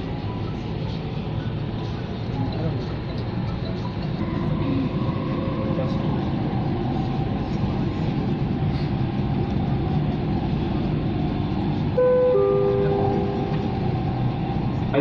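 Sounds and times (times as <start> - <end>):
train rumbling in motion: 0.0 - 15.0.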